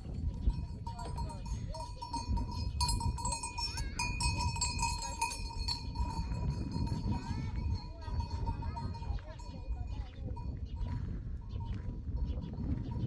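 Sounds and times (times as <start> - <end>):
livestock bells ringing: 0.0 - 13.0.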